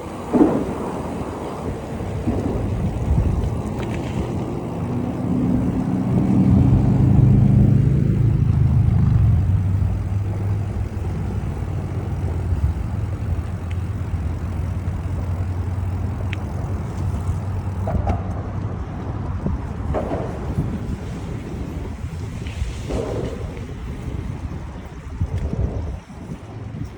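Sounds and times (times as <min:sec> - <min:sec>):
wind rumbling on microphone: 0:00.0 - 0:26.9
vehicle engine hum passing: 0:00.3 - 0:26.9.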